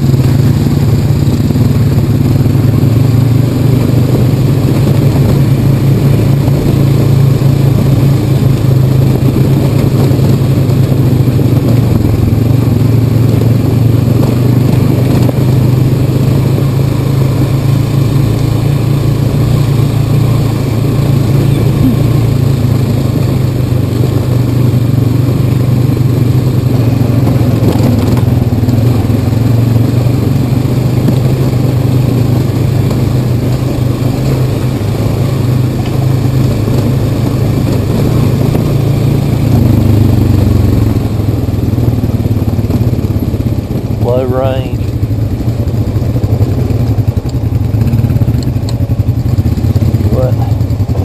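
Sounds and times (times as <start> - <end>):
quad engine running: 0.0 - 51.0.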